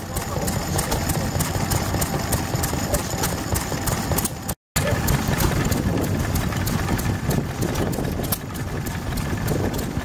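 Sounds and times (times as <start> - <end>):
stationary engine running: 0.0 - 10.0.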